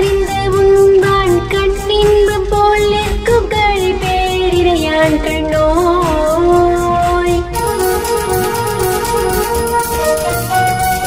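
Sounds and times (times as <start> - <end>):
held melody line: 0.0 - 11.0.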